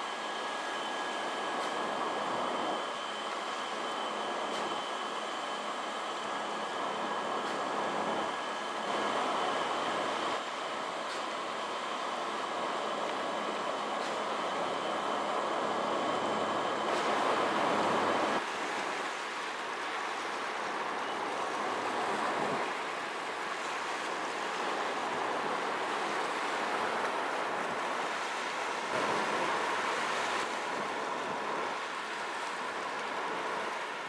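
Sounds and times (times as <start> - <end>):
wind: 0.0 - 34.0.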